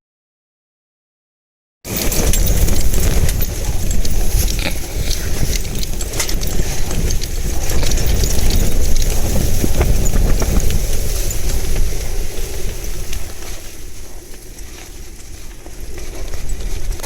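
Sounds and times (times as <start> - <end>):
irregular ticks and knocks: 1.9 - 17.0
wind buffeting microphone: 1.9 - 17.0.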